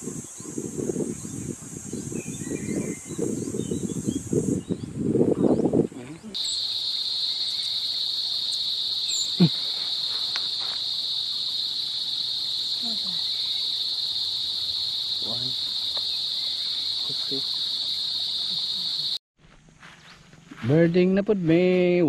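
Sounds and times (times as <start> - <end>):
high-pitched insect chorus: 0.0 - 19.2.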